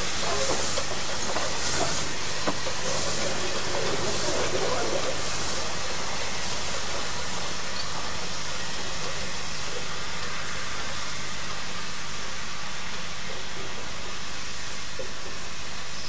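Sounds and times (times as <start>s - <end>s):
steam hissing from locomotive: 0.0s - 16.0s.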